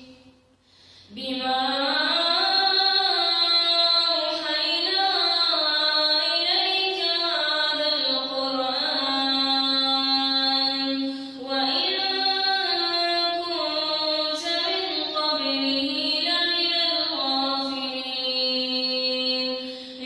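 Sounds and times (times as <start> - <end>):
girl chanting melodic recitation: 1.1 - 20.0.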